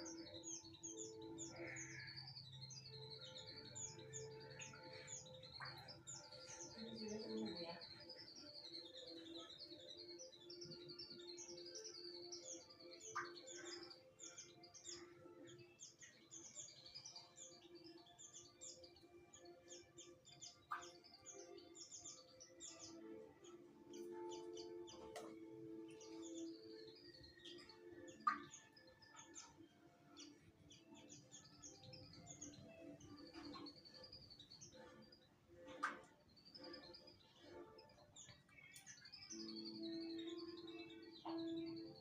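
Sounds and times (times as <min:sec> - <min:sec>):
bird singing high chirps: 0:00.0 - 0:42.0.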